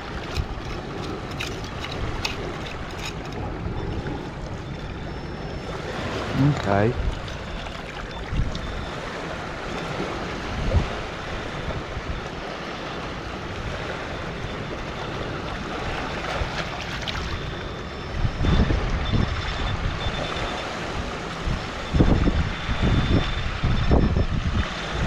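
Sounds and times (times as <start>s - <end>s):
river waves washing along shore: 0.0s - 25.0s
wind: 0.0s - 25.0s
wind gusting on microphone: 0.0s - 25.0s.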